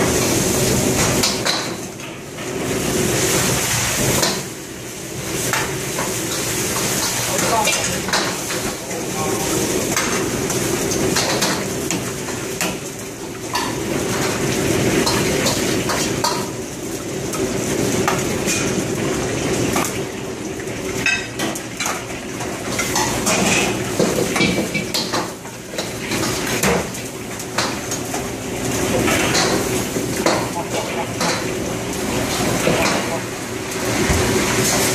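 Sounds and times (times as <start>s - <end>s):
ladles clanking and scraping on woks: 5.2s - 34.9s.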